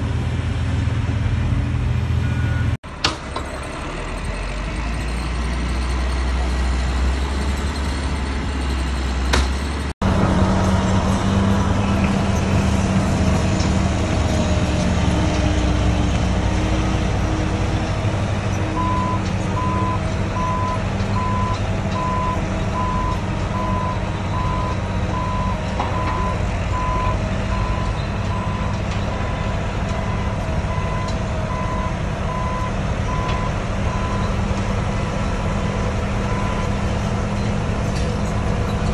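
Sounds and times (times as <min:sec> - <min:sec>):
diesel engine rumble: 0:00.0 - 0:38.9.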